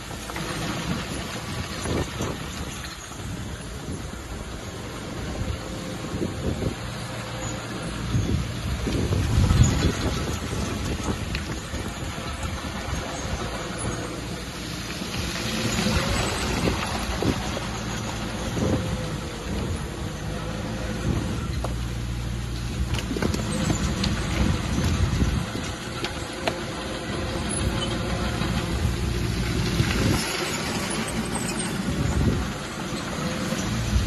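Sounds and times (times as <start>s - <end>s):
bulldozer diesel engine: 0.0s - 34.0s.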